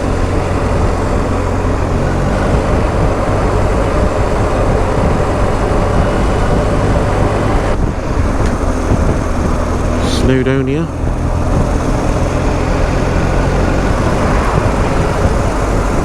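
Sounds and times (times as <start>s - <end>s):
motorcycle engine running: 0.0s - 16.0s
wind rush: 0.0s - 16.0s.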